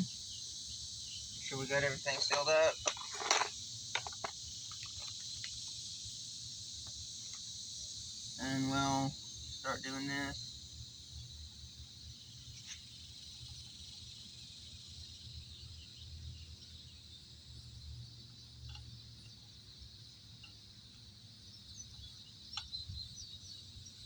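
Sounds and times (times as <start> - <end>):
high insect chorus: 0.0 - 24.0.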